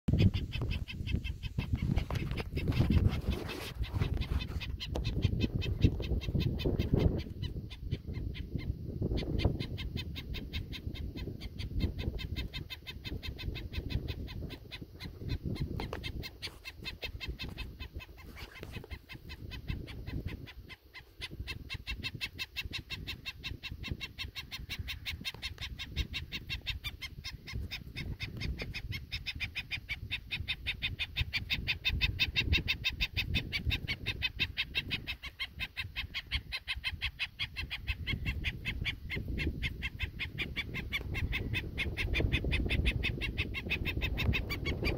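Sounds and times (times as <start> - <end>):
bird squawking alarm calls: 0.1 - 44.9.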